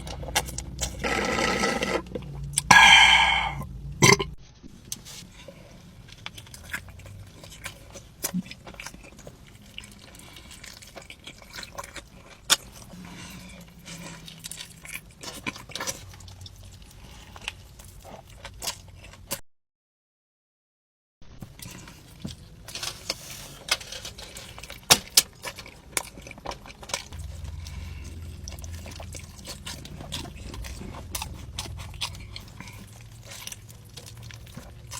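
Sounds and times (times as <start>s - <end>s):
person chewing food: 0.0s - 4.3s, 6.1s - 19.4s, 21.4s - 34.9s.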